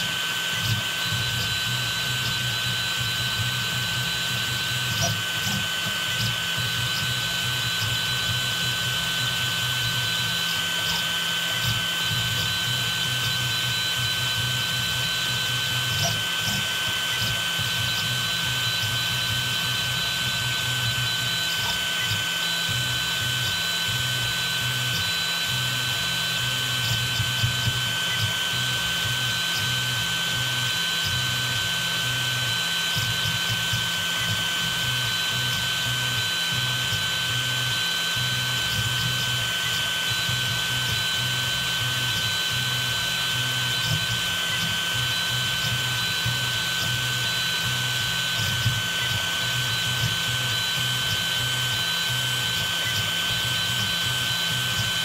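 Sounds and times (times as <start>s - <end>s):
high-pitched whine: 0.0s - 55.0s
stepper motors humming: 0.0s - 55.0s.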